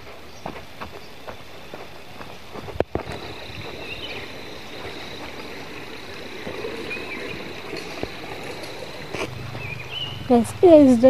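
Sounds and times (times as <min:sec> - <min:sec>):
footsteps on dirt path: 0:00.0 - 0:10.4
small stream running: 0:00.0 - 0:11.0.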